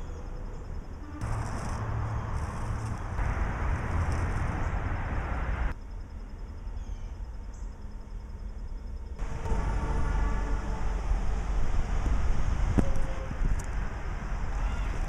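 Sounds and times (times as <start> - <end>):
distant traffic: 0.0 - 15.0
rumbling hiss: 0.6 - 15.0.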